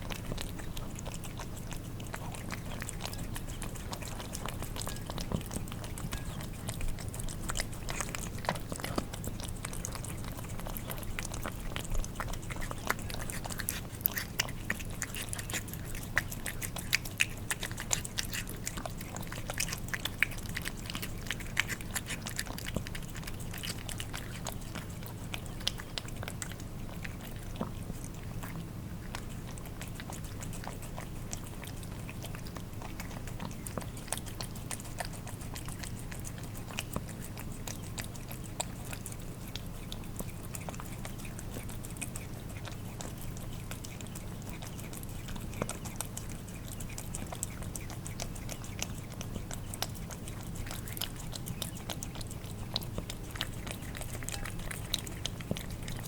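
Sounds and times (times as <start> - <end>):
cats licking and chewing food: 0.0 - 56.0
steady low hum: 0.0 - 56.0.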